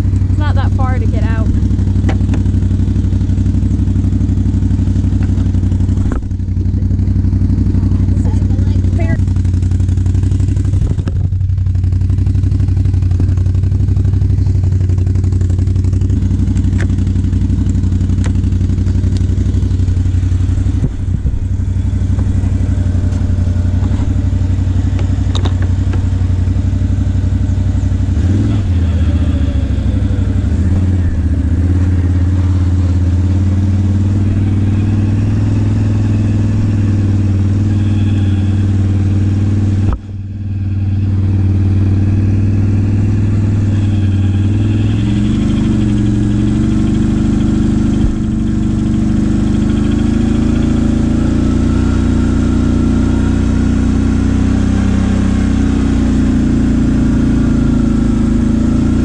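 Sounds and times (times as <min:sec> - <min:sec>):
atv engine running at low revs: 0:00.0 - 0:59.0.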